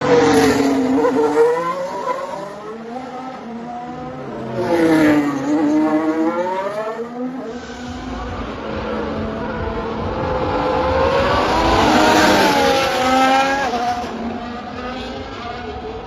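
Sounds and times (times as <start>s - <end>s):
race cars passing at high revs: 0.0s - 16.0s.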